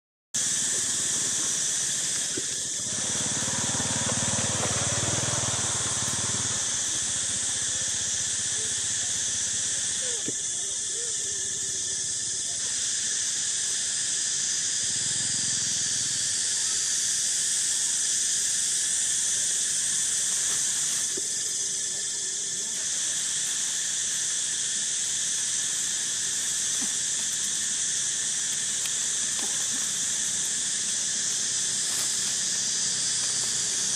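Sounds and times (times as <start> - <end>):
insect chorus drone: 0.4 - 33.9.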